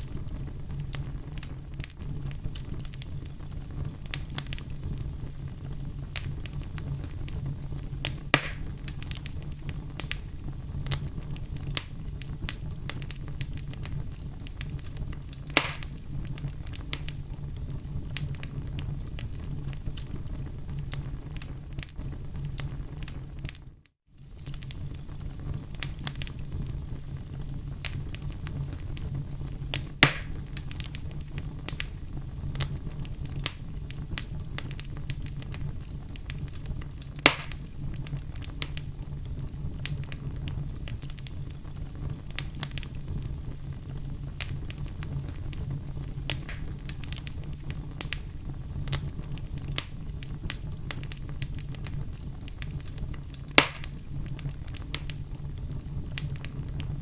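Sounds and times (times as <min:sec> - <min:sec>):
loud pops from fire: 0:00.0 - 0:57.0
low rumble of flames: 0:00.0 - 0:57.0
wood fire crackling: 0:00.0 - 0:57.0.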